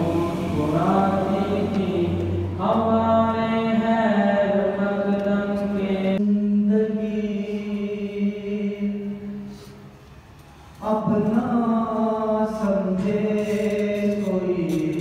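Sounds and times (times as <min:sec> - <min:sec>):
man chanting unaccompanied: 0:00.0 - 0:09.4, 0:10.8 - 0:15.0.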